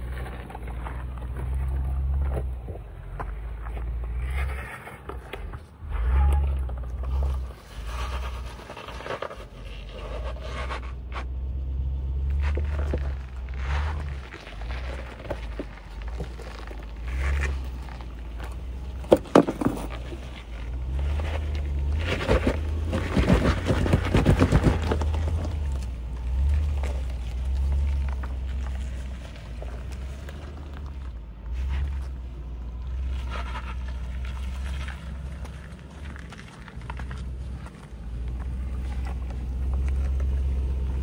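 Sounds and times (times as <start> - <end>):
car engine at low revs: 0.0 - 41.0
tyres scraping and crunching on rock: 0.0 - 41.0.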